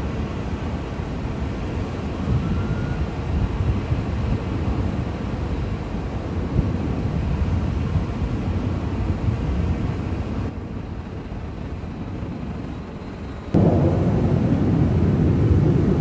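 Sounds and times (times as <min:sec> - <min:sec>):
aircraft engines rumbling overhead: 0:00.0 - 0:16.0.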